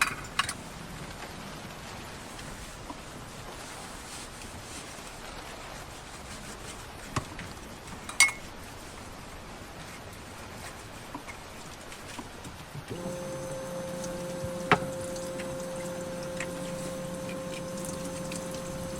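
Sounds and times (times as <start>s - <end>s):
heavy rain on a van: 0.0s - 18.9s.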